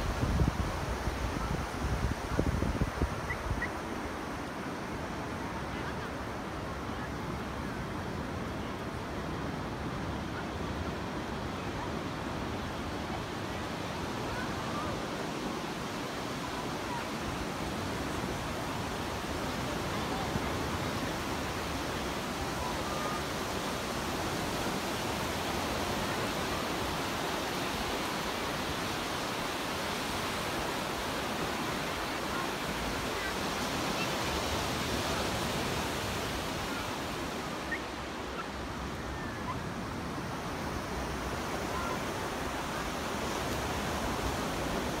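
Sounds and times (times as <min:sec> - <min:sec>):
waves breaking on beach: 0:00.0 - 0:45.0.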